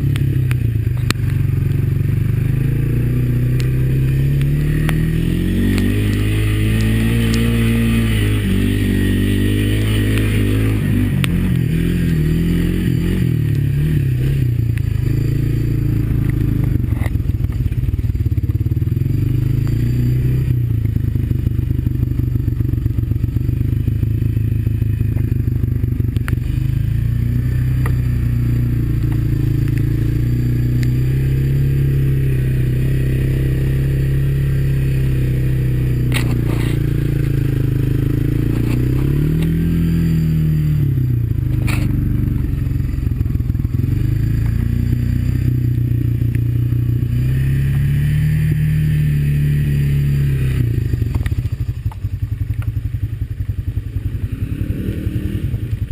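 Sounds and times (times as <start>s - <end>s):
engine running at low revs: 0.0s - 55.9s.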